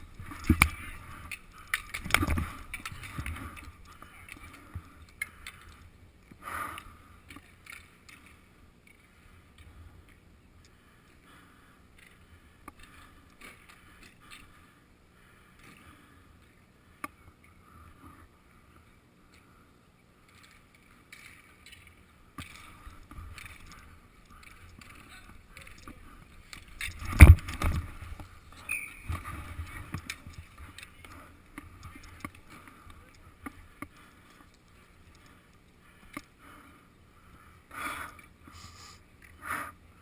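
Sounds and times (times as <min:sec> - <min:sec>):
low rumbling rink ambience: 0:00.0 - 0:40.0.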